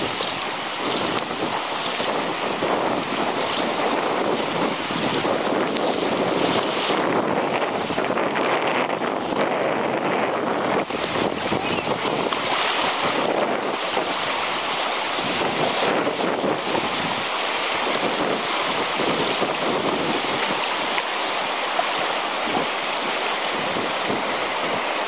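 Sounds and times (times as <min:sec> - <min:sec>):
river water rushing over stones: 0:00.0 - 0:25.0.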